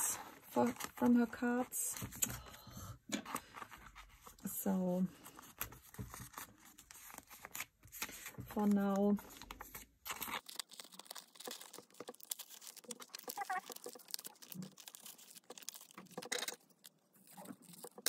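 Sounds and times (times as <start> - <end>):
plastic binder pages rustling: 0.2 - 2.4, 5.1 - 18.0.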